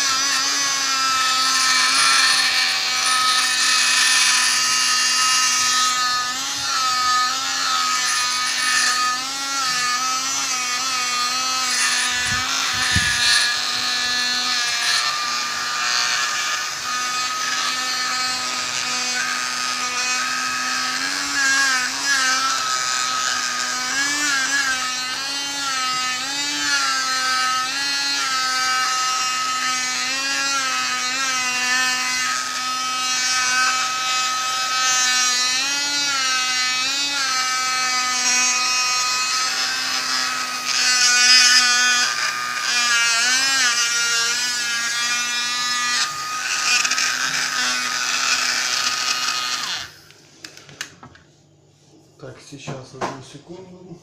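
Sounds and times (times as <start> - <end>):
mini vacuum cleaner motor whine: 0.0 - 51.2.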